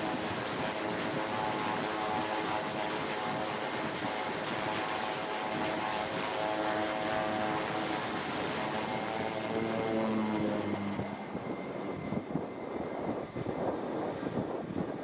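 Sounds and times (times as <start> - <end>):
high turbine whine: 0.0 - 15.0
propeller drone: 0.0 - 15.0.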